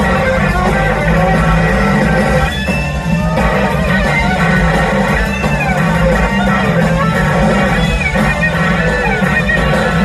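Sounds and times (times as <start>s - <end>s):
bass and drums: 0.0s - 10.0s
electric slide guitar: 0.0s - 10.0s.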